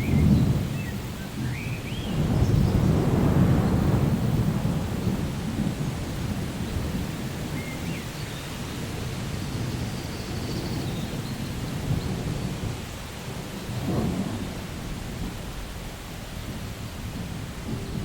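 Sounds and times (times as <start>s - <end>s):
rolling thunder rumble: 0.0s - 18.0s
steady rain falling: 0.0s - 18.0s.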